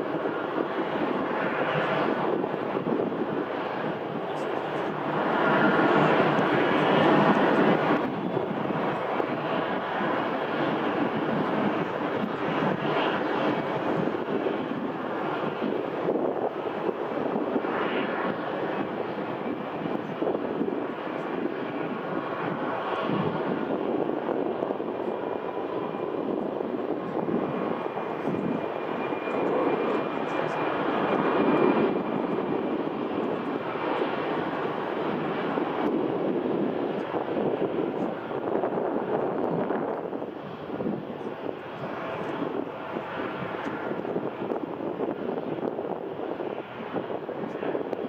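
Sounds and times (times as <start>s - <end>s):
distant jet engines rushing: 0.0s - 48.0s.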